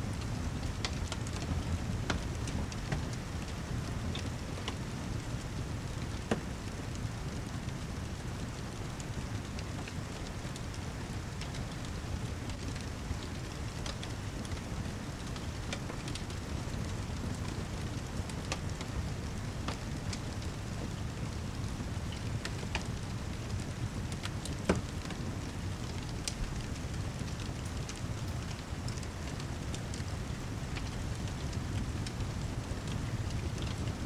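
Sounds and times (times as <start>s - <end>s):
fireplace crackling: 0.1s - 34.0s.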